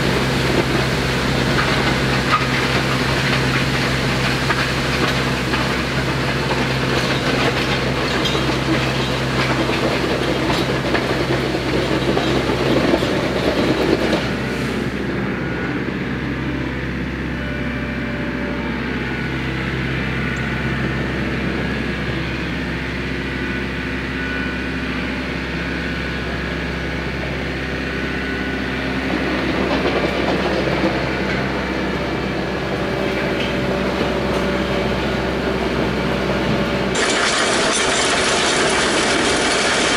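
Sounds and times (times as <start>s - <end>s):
diesel tractor running: 0.0s - 39.9s.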